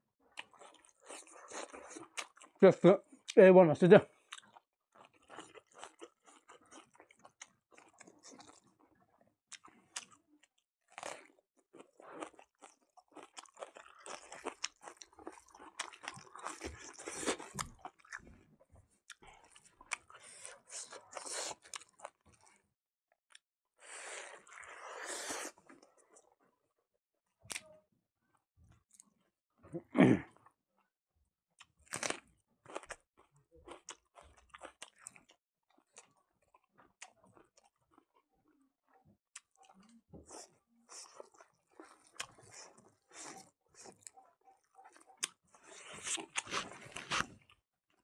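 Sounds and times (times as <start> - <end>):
person chewing and crunching food: 0.2 - 3.4, 4.1 - 22.7, 23.3 - 26.5, 31.6 - 48.0.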